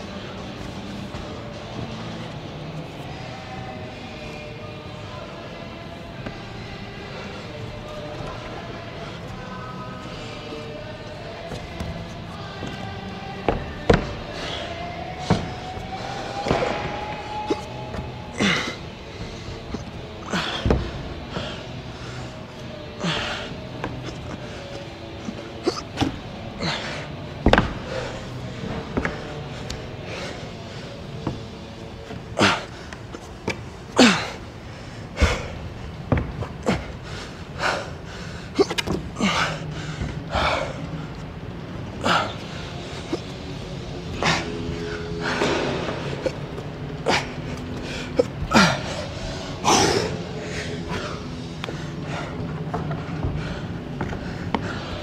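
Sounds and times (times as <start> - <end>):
background music: 0.0 - 55.0
hands and feet striking climbing holds: 0.0 - 55.0
gasping breaths and grunts: 5.6 - 55.0.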